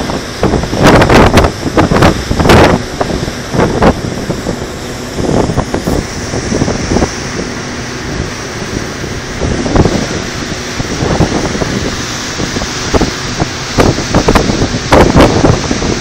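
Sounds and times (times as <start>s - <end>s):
water rushing past boat: 0.0s - 16.0s
wind buffeting microphone: 0.0s - 16.0s.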